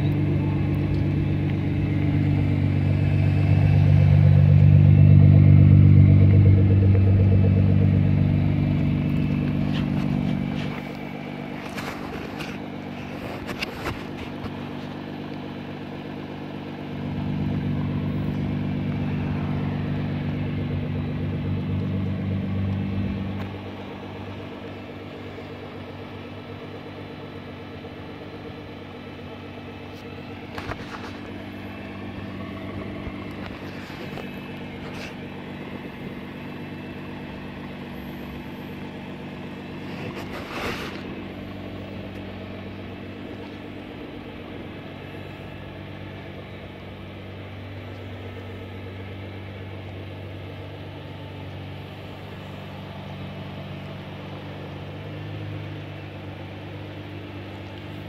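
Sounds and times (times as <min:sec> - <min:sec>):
car engine idling: 0:00.0 - 0:58.0
short louder engine noises: 0:00.0 - 0:58.0.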